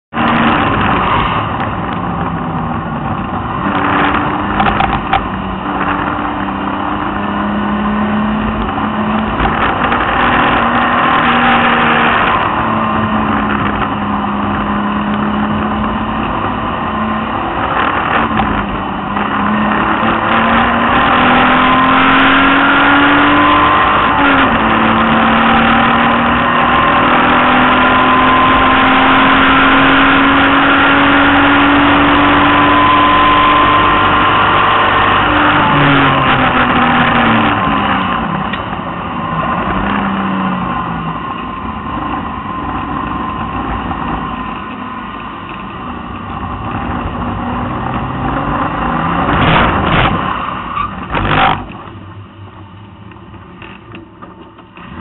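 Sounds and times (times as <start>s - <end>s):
car engine at speed: 0.1s - 55.0s.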